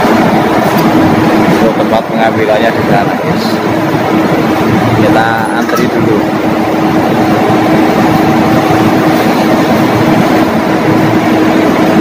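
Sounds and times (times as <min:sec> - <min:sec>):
machinery hum with pitched tone: 0:00.0 - 0:12.0.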